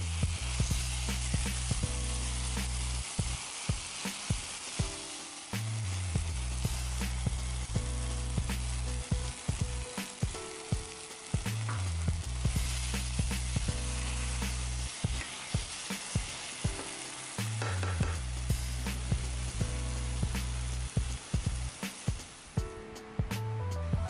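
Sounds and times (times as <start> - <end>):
mushrooms sizzling in frying pan: 0.0 - 24.0.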